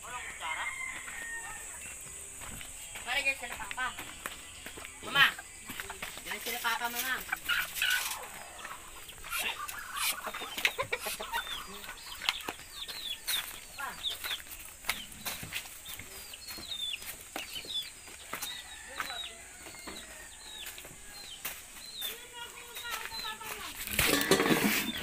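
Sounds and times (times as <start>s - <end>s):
chickens clucking: 0.0s - 25.0s
footsteps: 0.2s - 25.0s.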